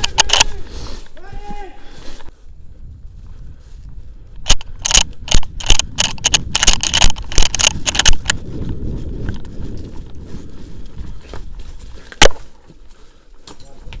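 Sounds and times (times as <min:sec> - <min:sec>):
running footsteps with heavy thuds: 0:00.0 - 0:14.0.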